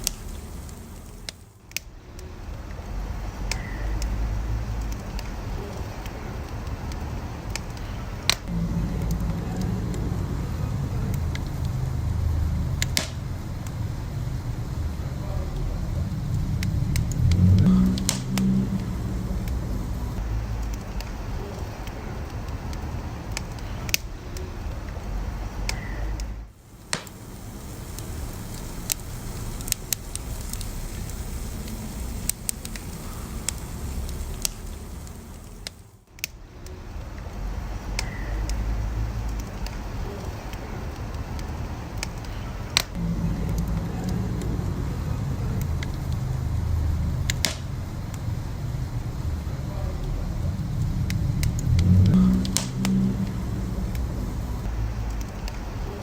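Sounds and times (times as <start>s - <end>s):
fire low rumble: 0.0s - 56.0s
wood fire crackles and pops: 0.0s - 56.0s.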